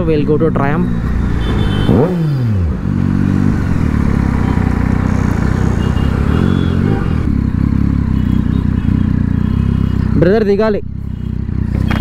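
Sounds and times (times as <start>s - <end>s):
motorcycle engine running: 0.9s - 12.0s.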